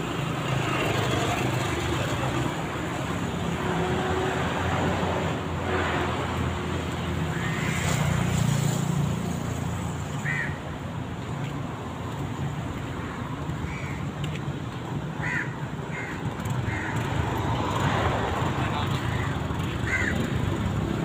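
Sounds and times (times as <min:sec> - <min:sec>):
traffic hum: 0:00.0 - 0:21.0.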